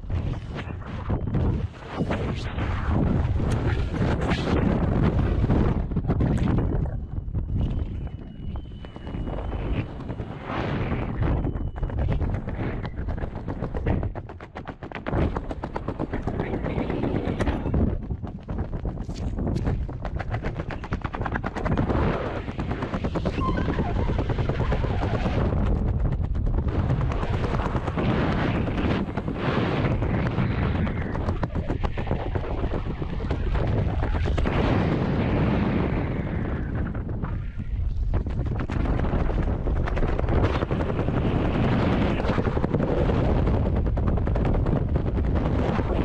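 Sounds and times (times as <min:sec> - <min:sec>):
parachute flapping: 0:00.0 - 0:46.0
rapid crackling pops: 0:00.0 - 0:46.0
wind rushing over microphone: 0:00.0 - 0:46.0.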